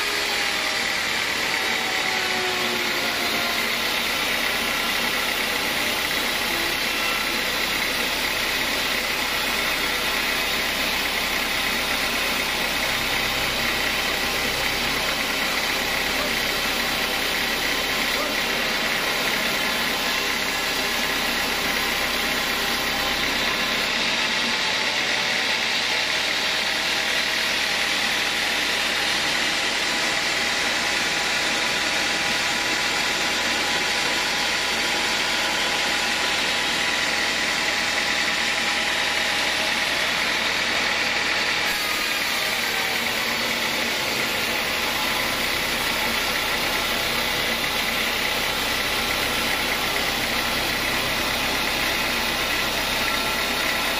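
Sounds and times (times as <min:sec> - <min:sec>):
band sawmill cutting log: 0:00.0 - 0:53.9.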